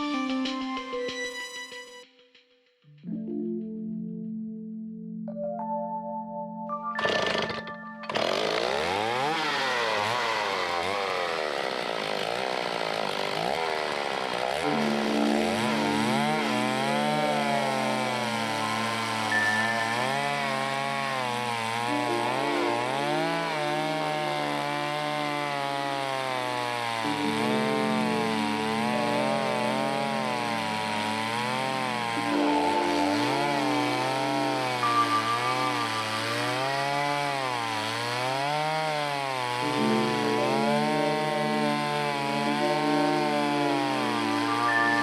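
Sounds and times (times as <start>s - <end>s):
chainsaw ripping a log: 7.0s - 45.0s.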